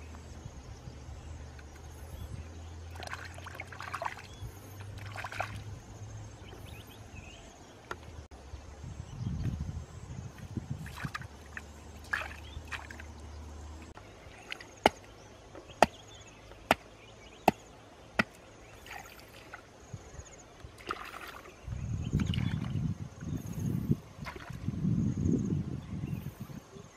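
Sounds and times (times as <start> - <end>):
muddy water sloshing and splashing: 1.4 - 8.3, 9.4 - 24.9.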